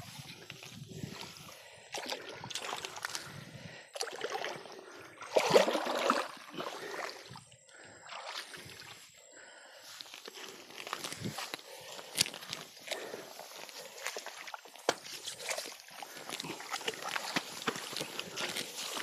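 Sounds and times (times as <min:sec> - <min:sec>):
muddy water sloshing and splashing: 0:00.0 - 0:19.0.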